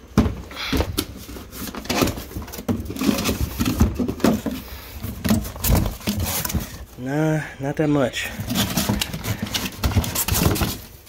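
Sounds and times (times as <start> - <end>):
cardboard boxes being handled: 0.0 - 7.2, 8.2 - 11.0.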